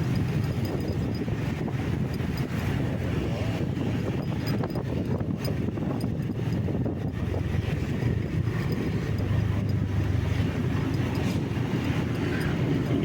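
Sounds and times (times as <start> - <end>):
vehicle driving rumble: 0.0 - 13.0
wind on microphone: 0.0 - 13.0.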